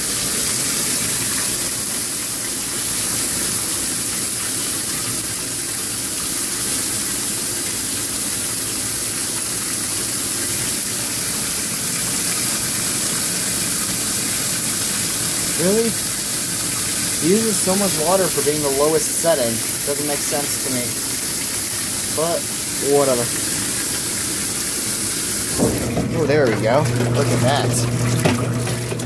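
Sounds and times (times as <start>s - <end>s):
water pouring into washing machine: 0.0s - 29.0s.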